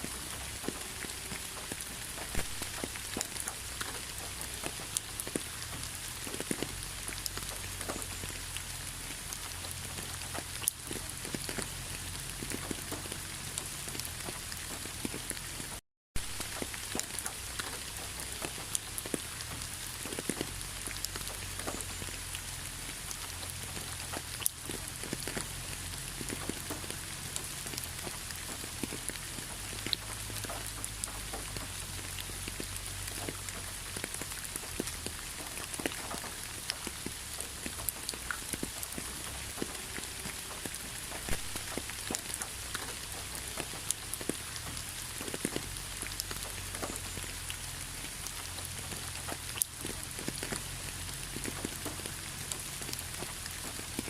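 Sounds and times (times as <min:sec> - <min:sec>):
raindrops clicking on a surface: 0:00.0 - 0:54.0
steady rain: 0:00.0 - 0:54.0.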